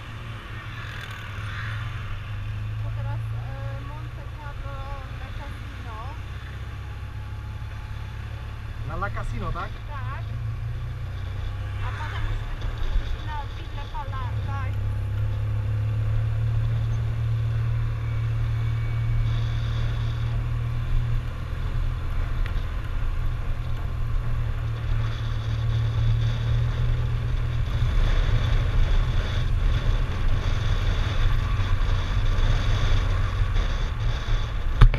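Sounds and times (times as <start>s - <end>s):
motorcycle engine running: 0.0s - 34.9s
wind rumble on microphone: 0.0s - 34.9s.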